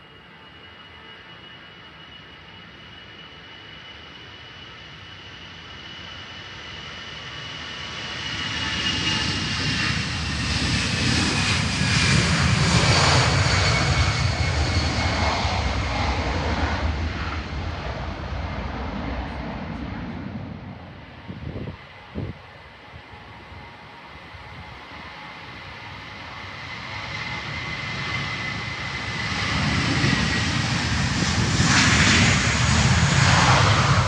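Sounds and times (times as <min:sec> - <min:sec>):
airliner flying overhead: 0:00.0 - 0:34.0.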